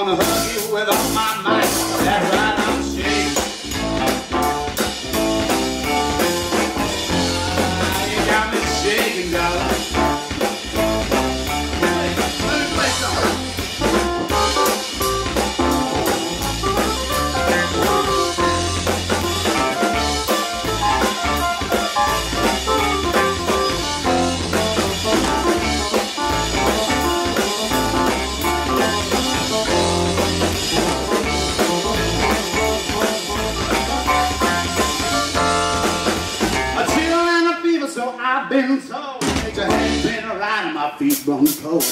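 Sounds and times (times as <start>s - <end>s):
live blues-rock band playing: 0.0s - 37.4s, 39.2s - 40.3s.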